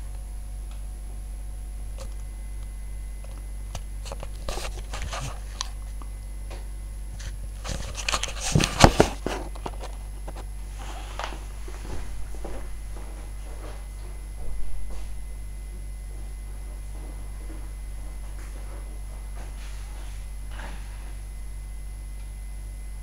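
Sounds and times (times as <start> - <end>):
washing machine low hum: 0.0 - 23.0.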